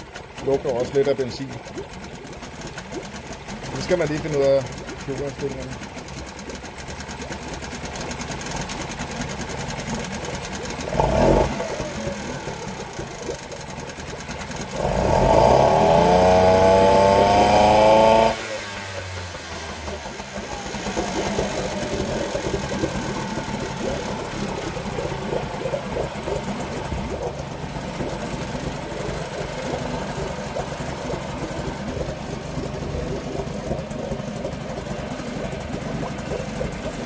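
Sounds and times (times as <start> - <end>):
outboard motor revving: 0.0 - 37.0.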